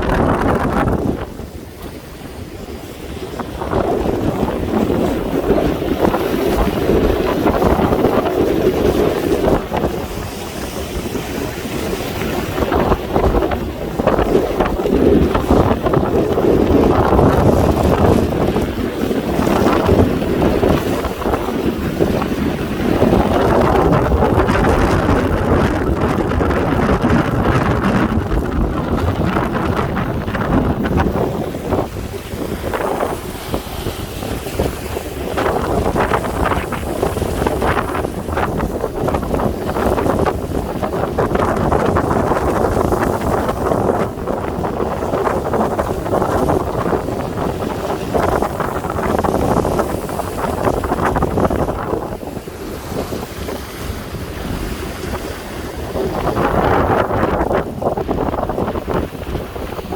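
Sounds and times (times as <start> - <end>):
strong wind buffeting microphone: 0.0 - 59.9.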